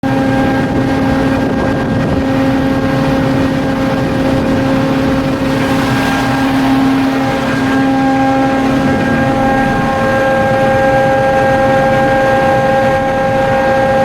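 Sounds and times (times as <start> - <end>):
ship engine droning: 0.0 - 14.0.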